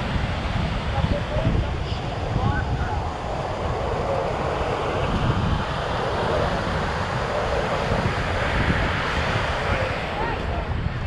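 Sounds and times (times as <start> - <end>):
surf breaking on beach: 0.0 - 11.0
wind buffeting microphone: 0.0 - 11.0
faint voices: 0.8 - 11.0.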